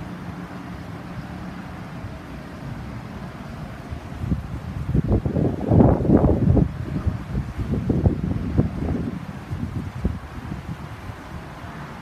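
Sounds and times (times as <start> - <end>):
distant small aircraft engine: 0.0 - 12.0
wind buffeting microphone: 0.0 - 12.0.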